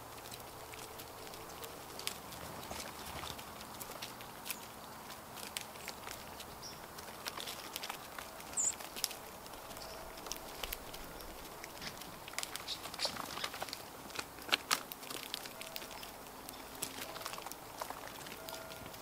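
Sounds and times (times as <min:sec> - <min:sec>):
birds pecking in dry litter: 0:00.0 - 0:19.0.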